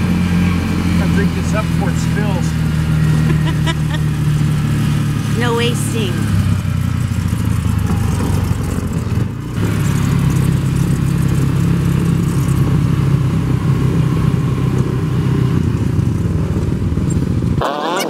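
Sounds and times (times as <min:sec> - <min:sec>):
wind and road noise: 0:00.0 - 0:17.8
golf cart engine humming: 0:00.0 - 0:18.0.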